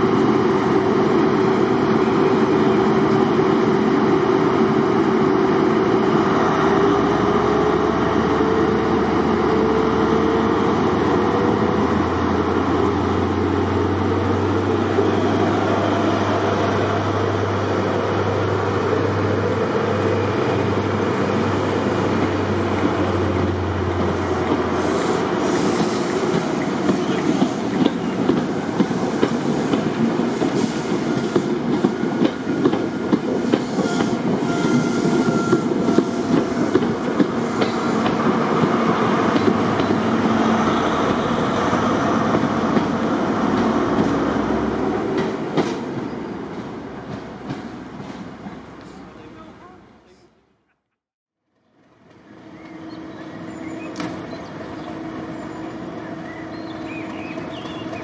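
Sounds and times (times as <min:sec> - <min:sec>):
diesel locomotive engine: 0:00.0 - 0:50.5, 0:51.6 - 0:58.0.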